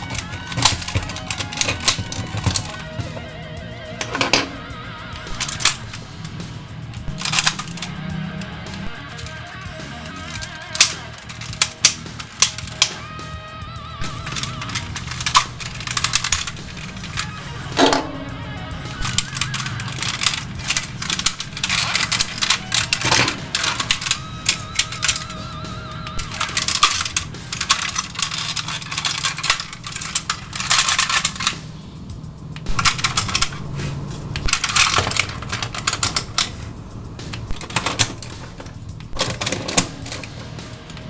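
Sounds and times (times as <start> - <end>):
plastic toy parts clicking: 0.0 - 13.2, 14.0 - 41.0
background music: 0.0 - 41.0.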